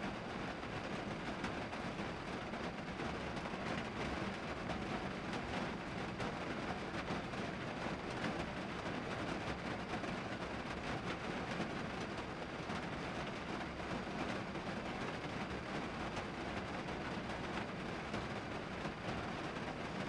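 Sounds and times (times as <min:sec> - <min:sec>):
rain on vehicle roof: 0:00.0 - 0:20.0.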